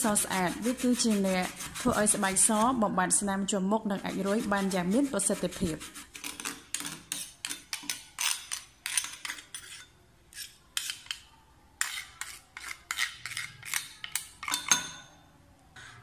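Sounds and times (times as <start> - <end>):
spoon scraping metal grater: 0.0 - 2.8, 3.9 - 11.2, 11.8 - 14.6.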